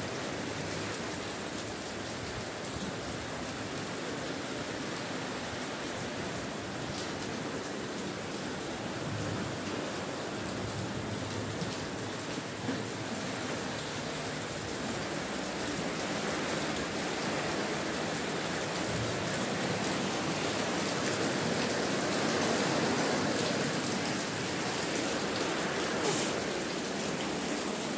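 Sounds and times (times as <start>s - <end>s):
heavy rain on a roof: 0.0s - 27.9s.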